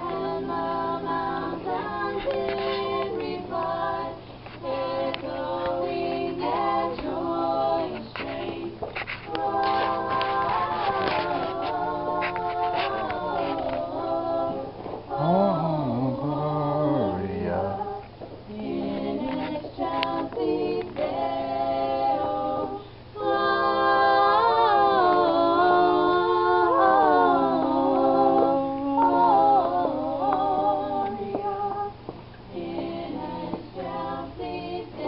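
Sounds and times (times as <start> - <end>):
group singing a carol: 0.0 - 35.0.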